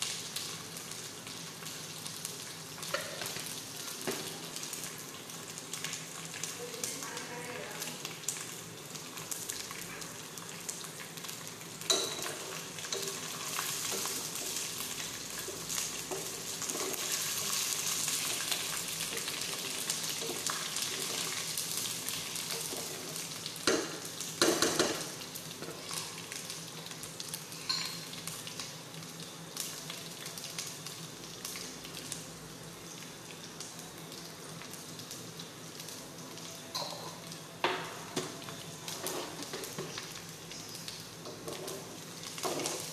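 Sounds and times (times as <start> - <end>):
onions sizzling in hot oil: 0.0 - 42.9.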